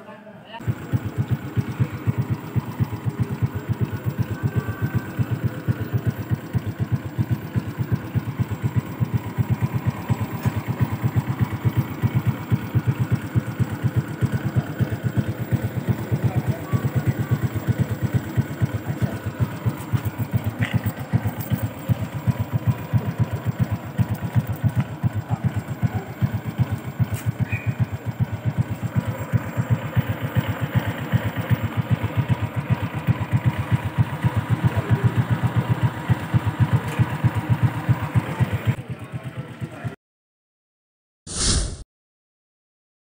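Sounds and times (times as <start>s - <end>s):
small engine idling: 0.6s - 40.0s.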